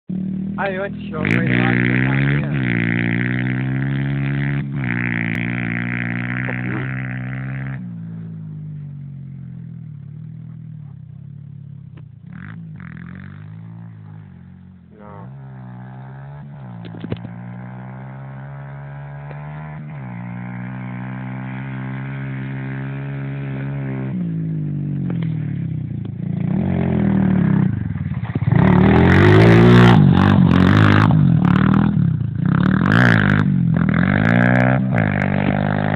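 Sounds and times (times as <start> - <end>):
small motorbike engine revving: 0.1 - 7.9, 11.9 - 35.9.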